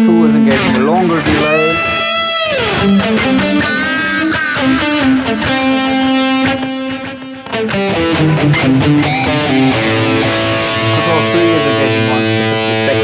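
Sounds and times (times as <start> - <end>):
distorted electric guitar lead: 0.0 - 13.0.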